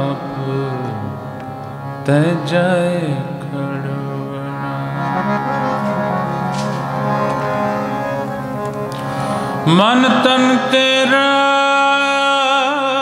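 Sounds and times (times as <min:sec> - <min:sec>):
harmonium playing: 0:00.0 - 0:13.0.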